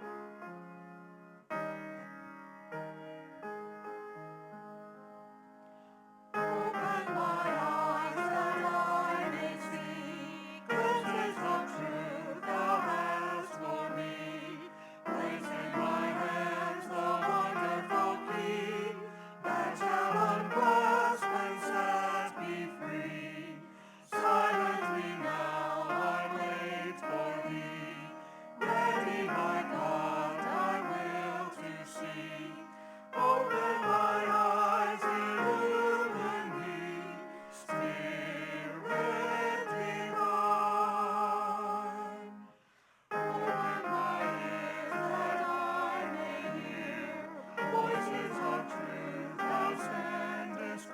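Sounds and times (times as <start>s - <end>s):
choir singing: 6.4s - 42.5s, 43.1s - 50.9s.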